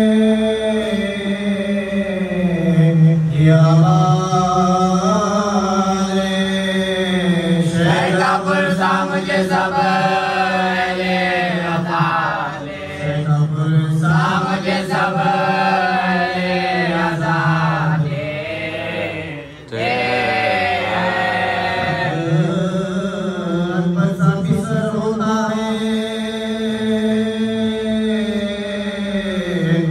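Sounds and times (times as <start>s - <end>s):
voices chanting a lament: 0.0s - 29.9s.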